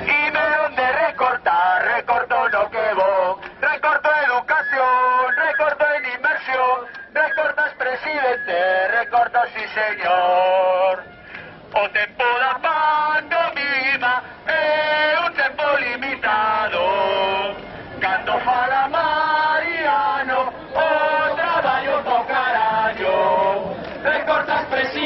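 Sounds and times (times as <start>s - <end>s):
crowd chanting slogans: 0.0s - 11.0s, 11.6s - 25.0s.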